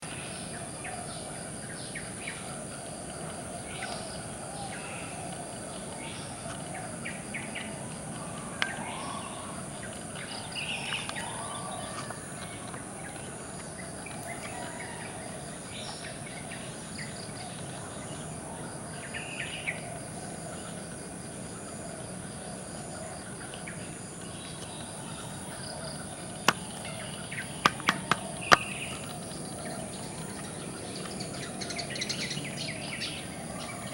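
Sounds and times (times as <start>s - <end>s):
bird calls: 0.0s - 21.0s, 21.6s - 33.9s.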